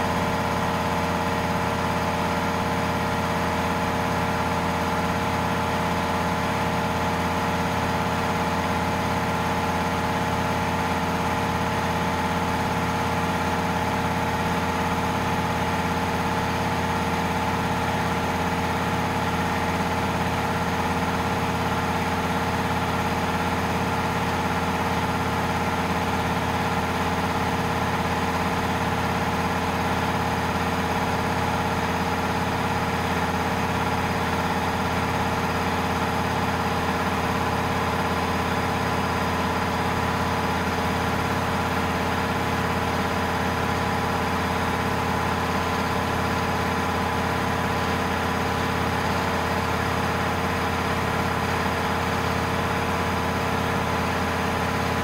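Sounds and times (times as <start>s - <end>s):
air compressor running: 0.0s - 55.0s.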